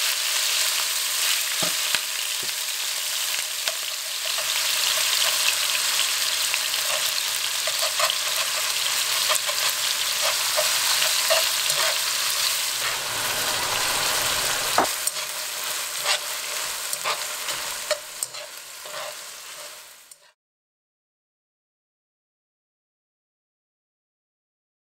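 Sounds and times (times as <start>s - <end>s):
meat sizzling in hot oil: 0.0s - 20.3s.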